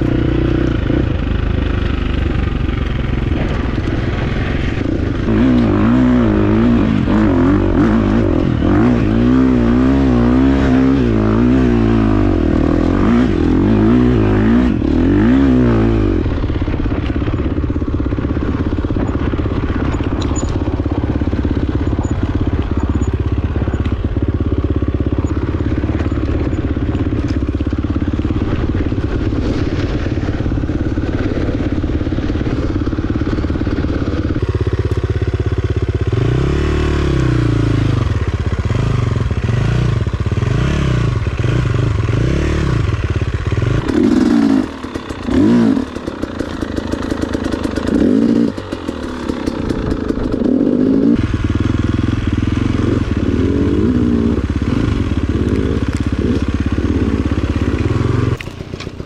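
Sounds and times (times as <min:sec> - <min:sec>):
dirt bike engine revving: 0:00.0 - 0:35.0, 0:35.8 - 0:59.0.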